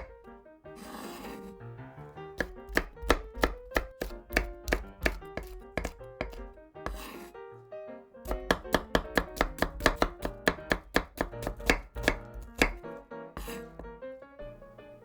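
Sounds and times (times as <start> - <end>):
knife chopping vegetables: 0.0 - 1.5, 2.3 - 7.3, 8.3 - 14.0.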